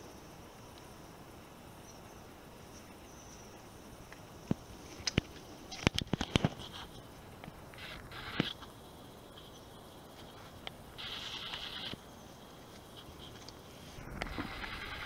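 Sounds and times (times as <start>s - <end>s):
faint high-pitched hiss: 0.0s - 15.0s.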